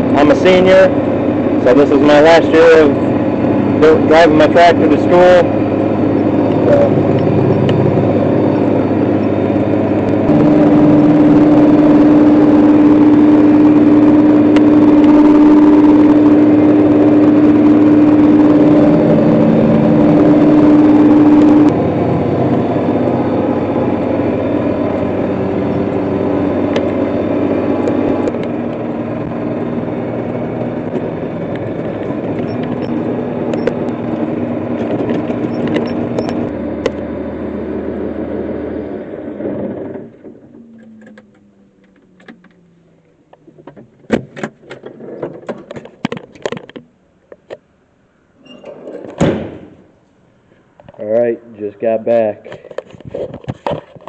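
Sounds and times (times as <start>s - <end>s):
tractor diesel engine running: 0.0s - 47.1s
steady high whine: 0.0s - 54.0s.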